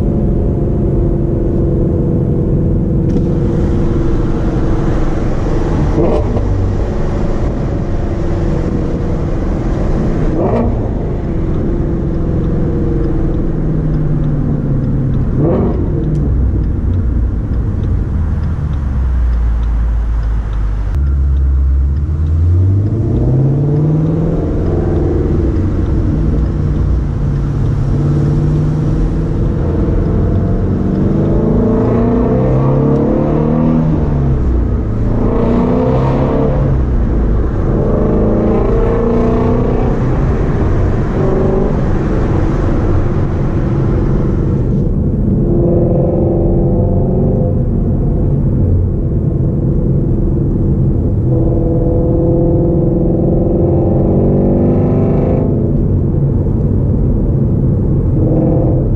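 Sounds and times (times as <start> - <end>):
car engine from inside cabin: 0.0 - 58.9
tyre and road noise: 0.0 - 58.9.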